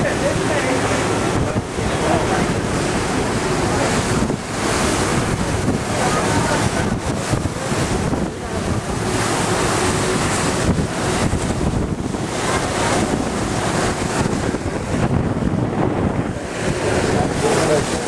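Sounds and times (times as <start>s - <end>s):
white water rushing along hull: 0.0s - 18.0s
wind buffeting microphone: 0.0s - 18.0s.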